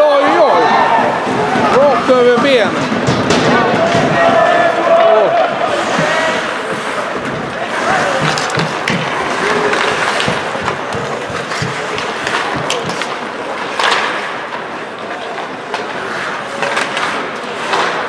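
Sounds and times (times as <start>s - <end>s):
sticks and puck clacking: 0.3s - 18.0s
skates scraping on ice: 0.5s - 18.0s.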